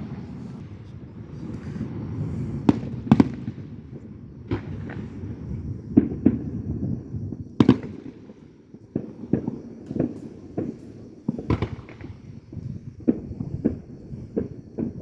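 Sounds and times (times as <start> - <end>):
fireworks booming and cracking: 0.0 - 15.0.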